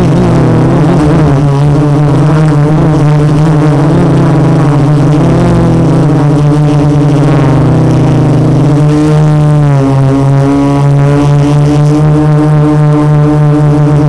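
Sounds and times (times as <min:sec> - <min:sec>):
quadcopter motors humming: 0:00.0 - 0:14.0.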